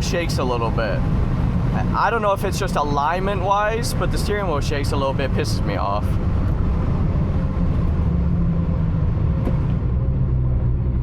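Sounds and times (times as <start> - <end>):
car engine drone: 0.0 - 11.0
road noise: 0.0 - 11.0.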